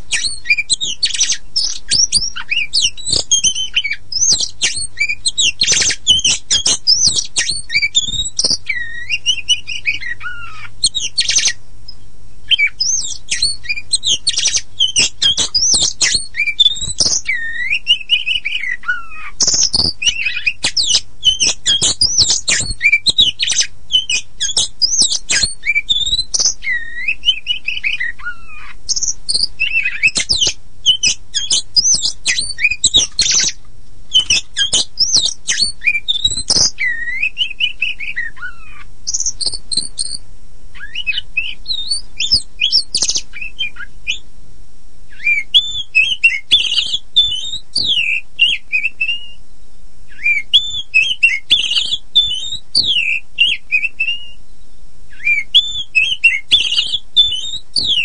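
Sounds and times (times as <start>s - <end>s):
bird singing chattering notes: 0.0s - 11.6s, 12.5s - 40.2s, 40.8s - 44.2s, 45.2s - 49.3s, 50.2s - 54.4s, 55.2s - 58.0s
faint low hum: 0.0s - 58.0s.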